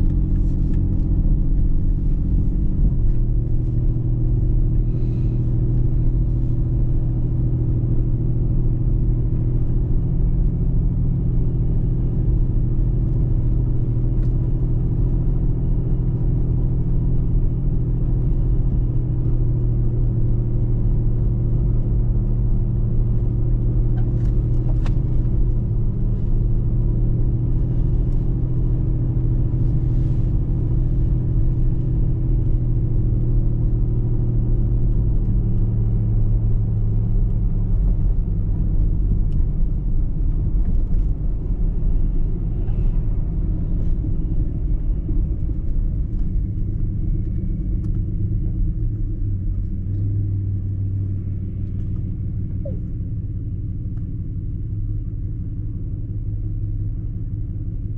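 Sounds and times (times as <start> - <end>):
car engine and road drone: 0.0 - 57.9.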